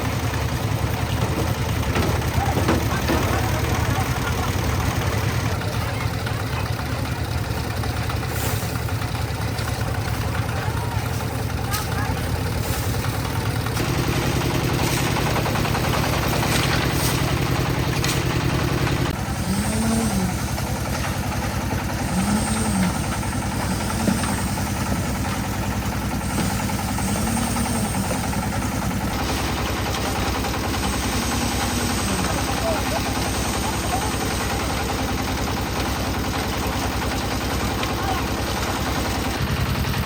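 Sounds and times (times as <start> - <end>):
concrete mixer engine running: 0.0 - 40.0.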